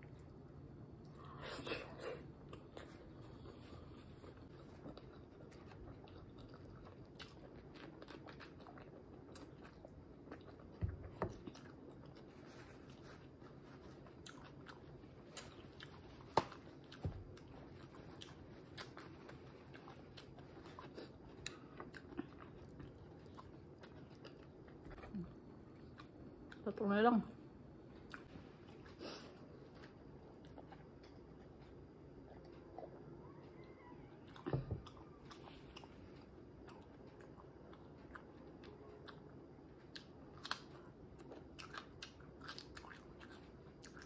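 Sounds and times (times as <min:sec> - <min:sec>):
wet chewing mouth sounds: 0:01.0 - 0:26.6, 0:28.1 - 0:29.0, 0:34.2 - 0:44.0.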